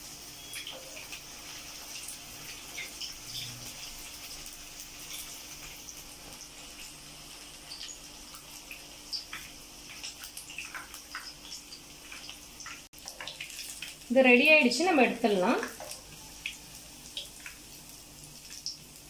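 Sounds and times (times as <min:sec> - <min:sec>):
fritters deep-frying in oil: 0:00.0 - 0:19.0
oil popping and crackling: 0:00.6 - 0:19.0.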